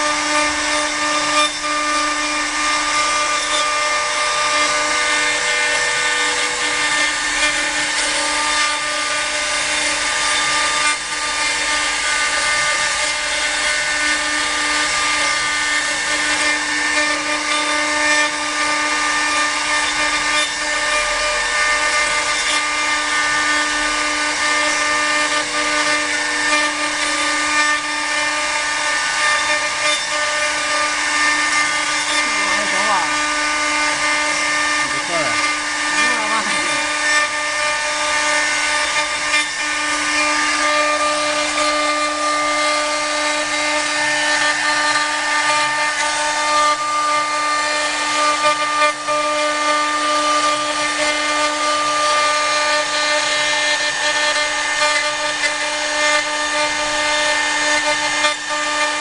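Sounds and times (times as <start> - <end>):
rough wood cutting noise: 0.0 - 59.0
router spindles whining: 0.0 - 59.0.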